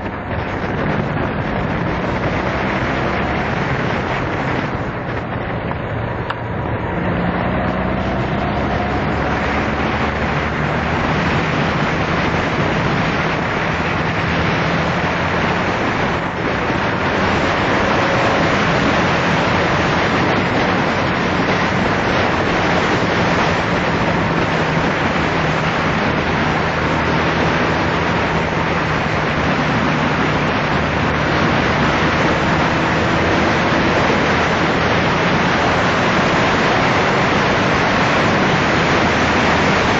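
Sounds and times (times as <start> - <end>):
motorcycle engine humming: 0.0 - 39.9
wind rushing over microphone: 0.0 - 39.9.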